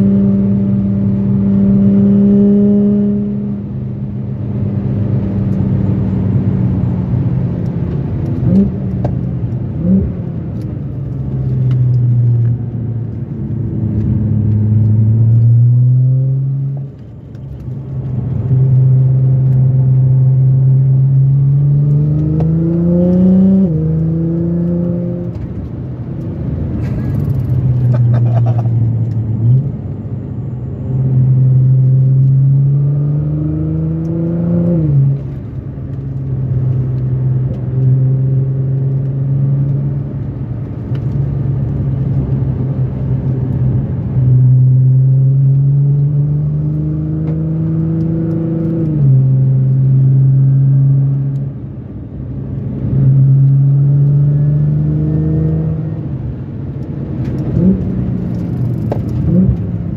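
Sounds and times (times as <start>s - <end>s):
car engine revving: 0.0s - 30.0s, 30.6s - 59.9s.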